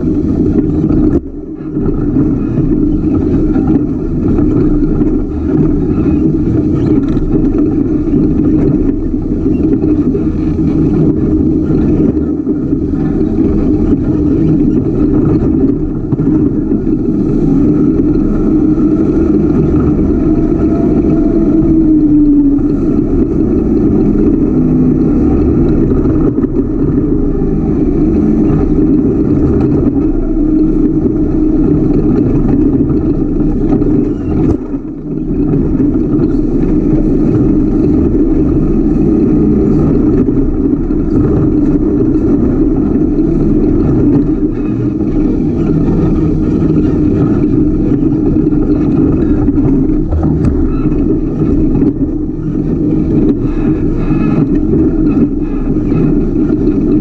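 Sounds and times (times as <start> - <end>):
race car engine under load: 0.0 - 57.0.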